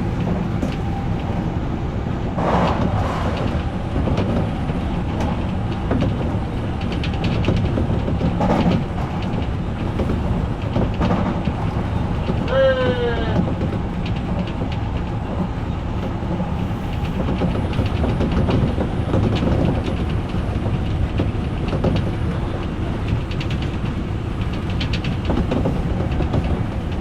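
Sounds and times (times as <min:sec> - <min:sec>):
train rumbling: 0:00.0 - 0:27.0
wheels clicking over rail joints: 0:02.4 - 0:27.0.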